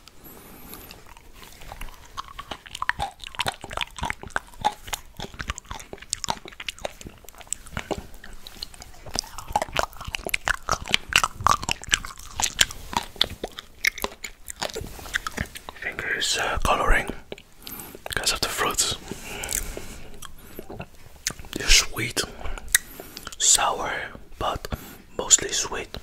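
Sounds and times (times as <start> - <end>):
chewing fruit: 0.0 - 26.0.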